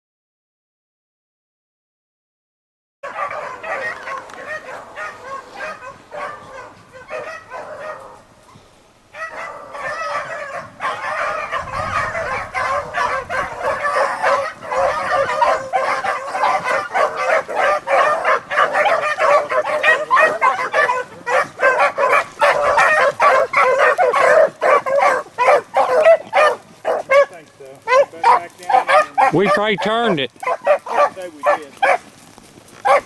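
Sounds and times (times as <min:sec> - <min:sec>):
dogs baying: 0:03.0 - 0:33.0.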